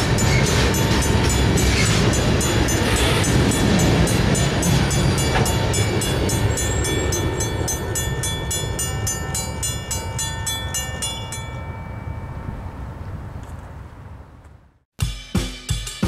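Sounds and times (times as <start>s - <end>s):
railroad crossing bell ringing: 0.0s - 13.0s
rail cars rumbling past: 0.0s - 14.4s.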